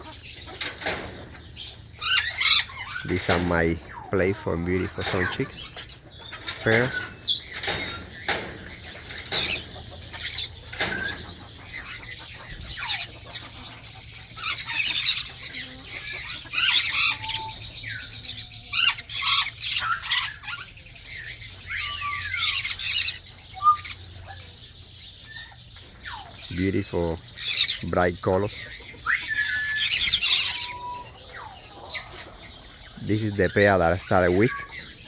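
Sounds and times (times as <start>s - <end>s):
parrots chirping and squawking: 0.0s - 35.0s
gliding whistled calls: 1.6s - 24.5s, 25.3s - 35.0s.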